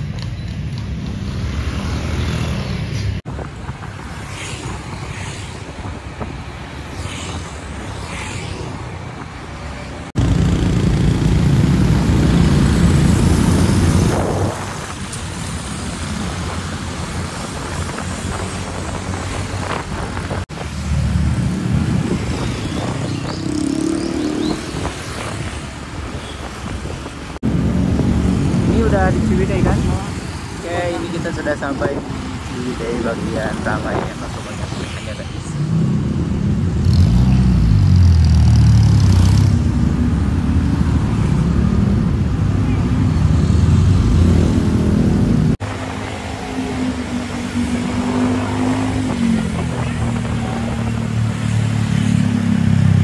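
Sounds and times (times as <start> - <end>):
road and traffic noise: 0.0 - 53.0.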